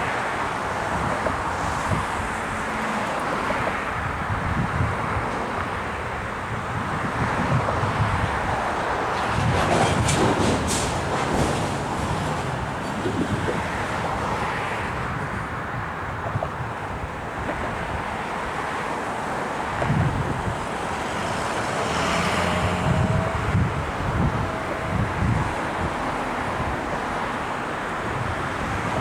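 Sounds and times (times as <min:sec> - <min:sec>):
train rumbling: 0:00.0 - 0:29.0
wind buffeting microphone: 0:00.0 - 0:29.0.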